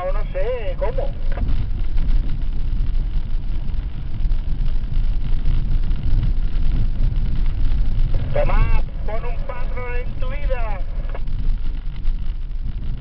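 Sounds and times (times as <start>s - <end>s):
low rumble of engine and tyres: 0.0s - 13.0s.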